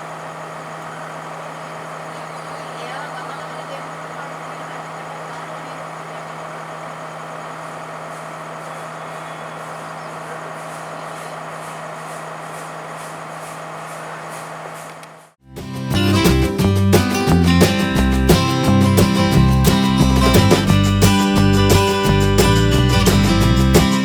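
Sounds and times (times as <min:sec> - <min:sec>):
diesel train engine running: 0:00.0 - 0:24.0.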